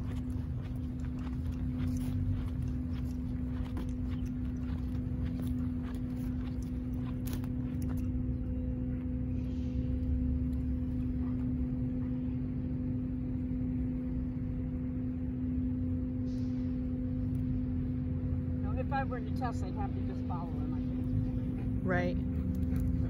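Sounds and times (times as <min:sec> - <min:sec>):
constant low hum: 0:00.0 - 0:23.0
low outdoor rumble: 0:00.0 - 0:23.0.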